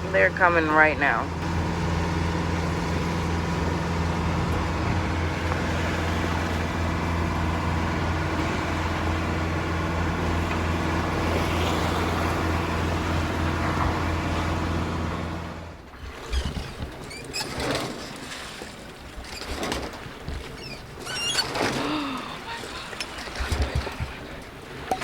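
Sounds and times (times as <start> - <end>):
boat engine drone: 0.0 - 25.0
water noise: 0.0 - 25.0.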